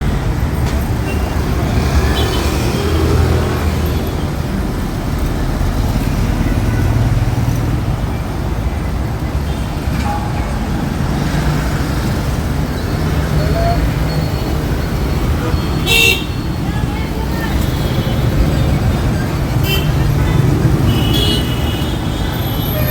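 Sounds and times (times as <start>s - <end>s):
road traffic passing: 0.0s - 22.9s.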